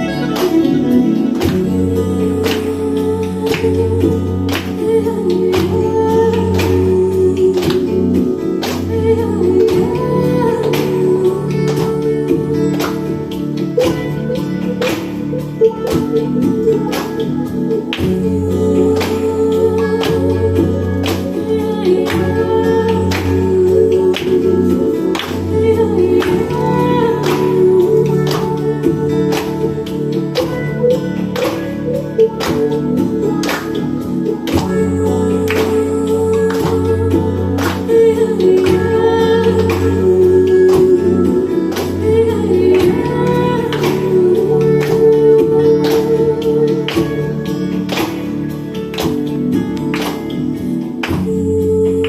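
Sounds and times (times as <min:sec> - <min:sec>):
guitar accompaniment: 0:00.0 - 0:52.0
person singing: 0:00.0 - 0:52.0.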